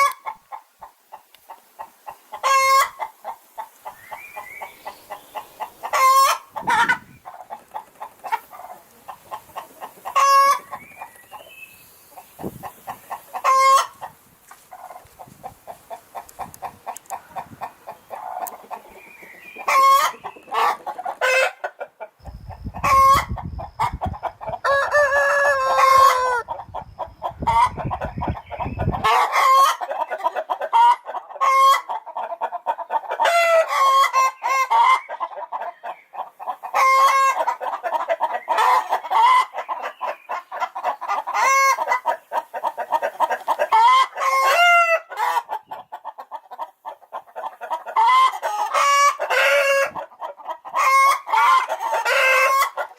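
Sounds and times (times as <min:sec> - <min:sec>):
chickens clucking: 0:00.0 - 0:52.9.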